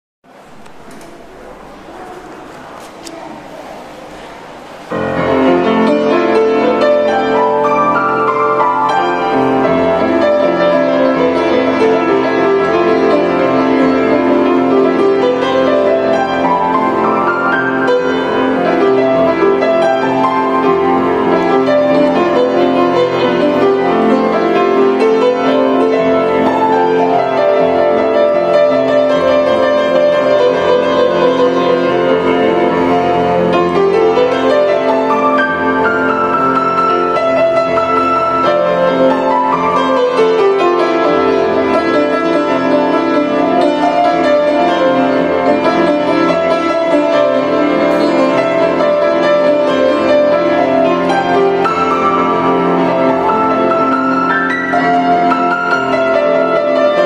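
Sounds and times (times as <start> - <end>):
grand piano playing: 0.2 - 57.0.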